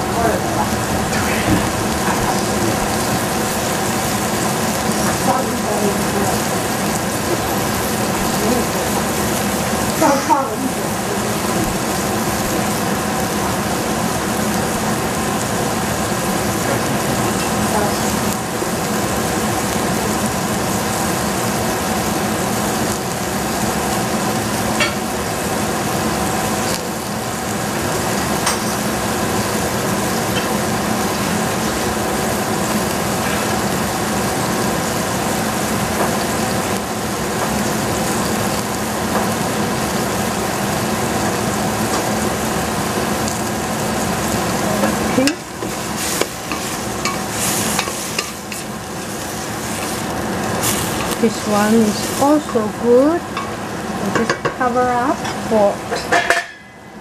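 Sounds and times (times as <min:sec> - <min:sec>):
beans sizzling in a pot: 0:00.0 - 0:57.0.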